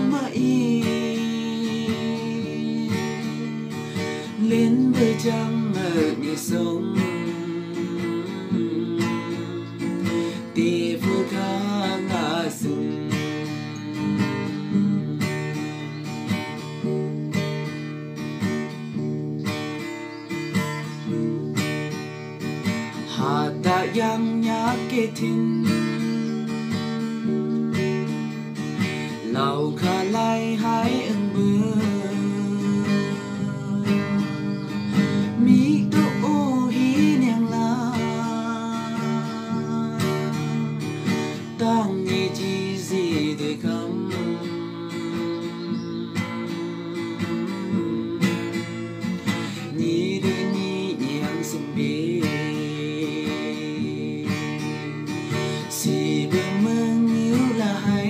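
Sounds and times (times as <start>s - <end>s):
man singing: 0.0s - 16.0s, 22.9s - 26.6s, 29.1s - 58.0s
acoustic guitar strumming: 0.0s - 58.0s.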